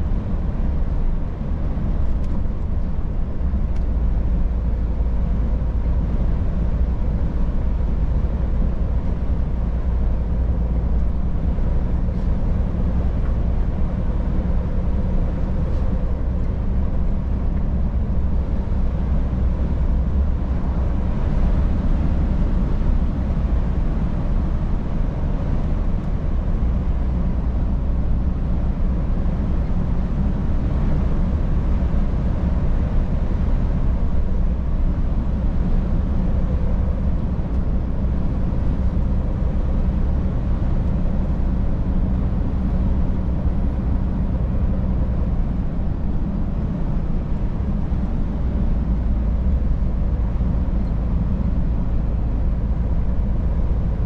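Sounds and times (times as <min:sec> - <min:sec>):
road noise: 0:00.0 - 0:54.0
truck diesel engine drone: 0:00.0 - 0:54.0.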